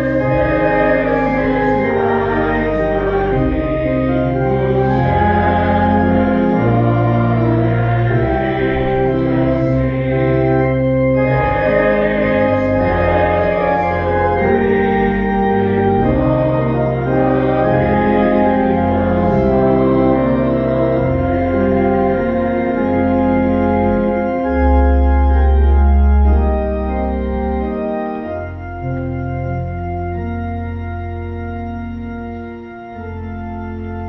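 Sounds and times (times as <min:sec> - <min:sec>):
church organ chords: 0:00.0 - 0:34.0
low pedal bass notes: 0:00.0 - 0:34.0.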